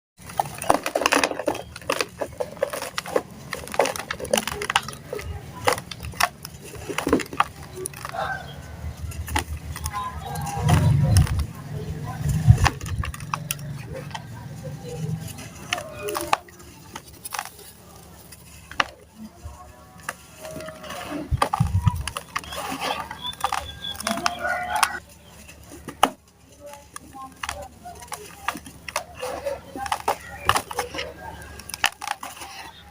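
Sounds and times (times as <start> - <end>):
dry sand crumbling: 0.2 - 32.9.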